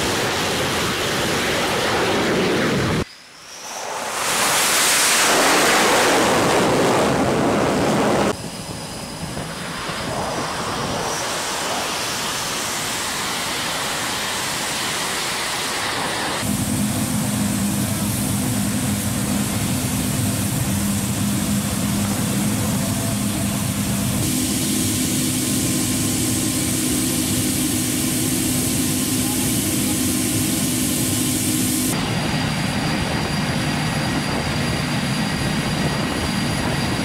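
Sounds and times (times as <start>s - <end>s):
jet engine noise: 0.0s - 37.0s.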